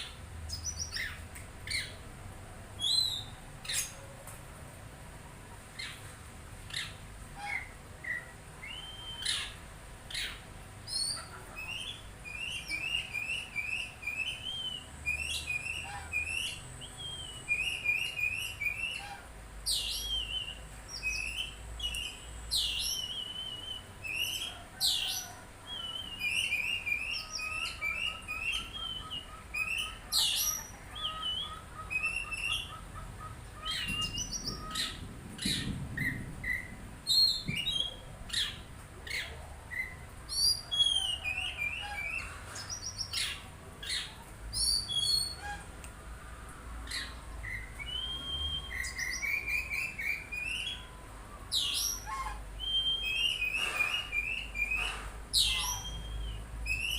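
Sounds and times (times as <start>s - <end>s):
songbirds singing: 0.0s - 4.2s, 5.5s - 56.9s.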